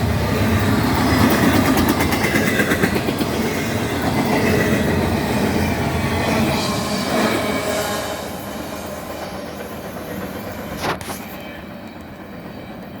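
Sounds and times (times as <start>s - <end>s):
freight train cars rolling past: 0.0s - 13.0s.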